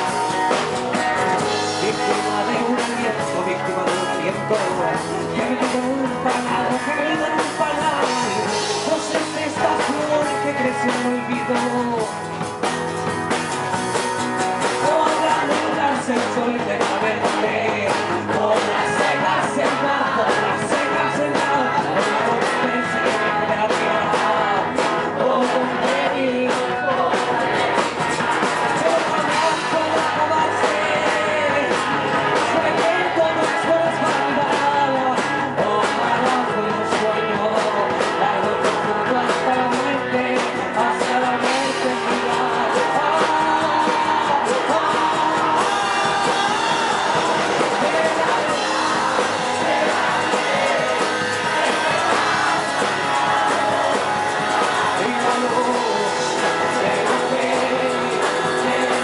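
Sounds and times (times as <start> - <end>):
person singing into microphone: 0.0 - 12.4, 14.6 - 59.0
drum kit: 0.0 - 59.0.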